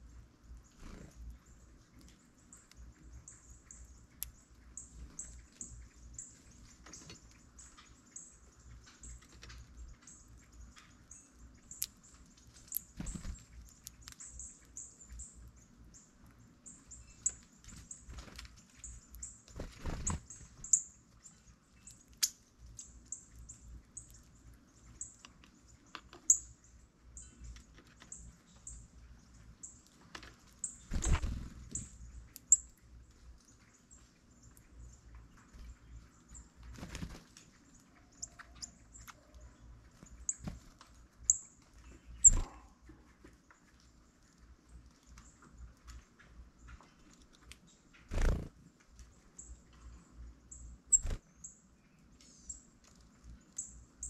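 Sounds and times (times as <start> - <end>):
birds chip notes: 0.0 - 54.0.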